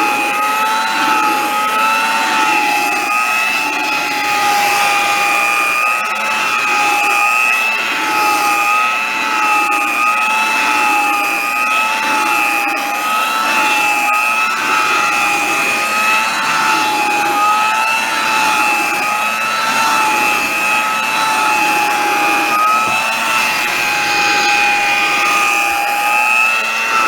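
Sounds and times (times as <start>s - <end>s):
hand vacuum cleaner whining: 0.0s - 27.0s.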